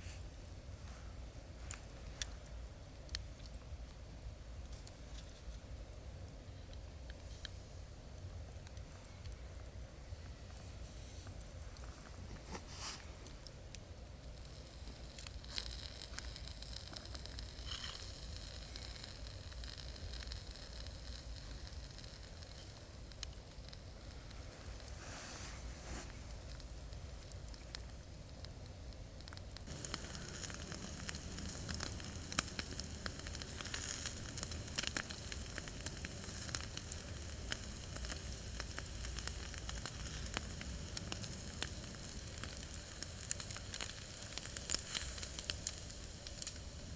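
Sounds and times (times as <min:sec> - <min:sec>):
campfire crackling and popping: 0:01.5 - 0:11.8, 0:13.1 - 0:46.9.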